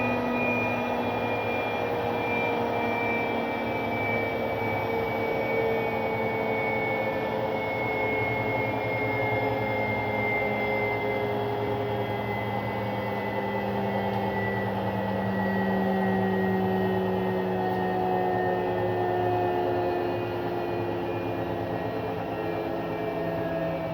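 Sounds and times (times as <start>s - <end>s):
washing machine motor whine: 0.0s - 23.9s.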